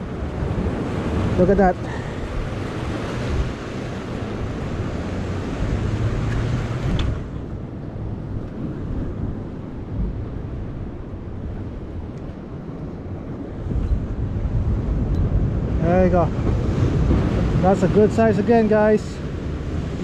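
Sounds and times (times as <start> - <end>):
surf washing on rocks: 0.0 - 20.0
wind buffeting microphone: 0.0 - 20.0.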